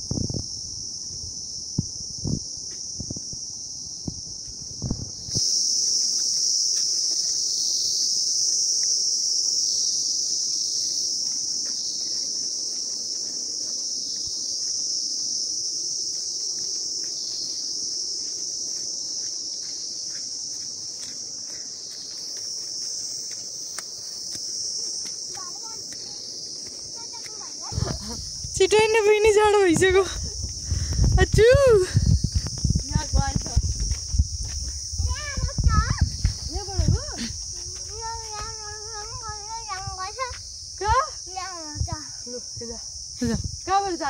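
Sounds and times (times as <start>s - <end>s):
insects droning shrilly: 0.0s - 44.0s.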